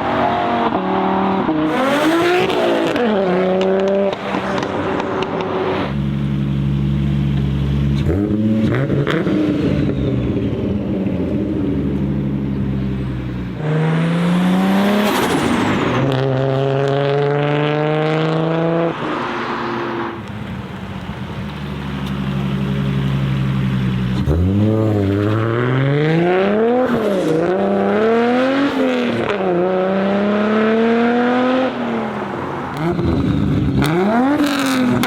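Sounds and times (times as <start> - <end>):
car engine running hard: 0.0 - 35.0.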